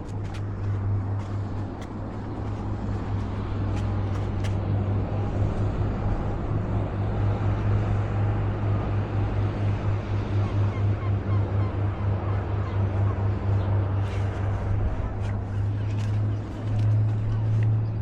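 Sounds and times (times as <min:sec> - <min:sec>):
motor boat engine droning: 0:00.0 - 0:18.0.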